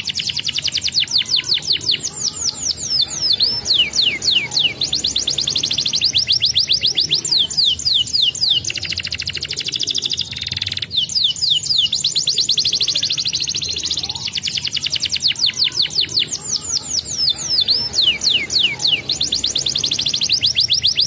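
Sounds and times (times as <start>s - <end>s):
canary singing: 0.0s - 21.0s.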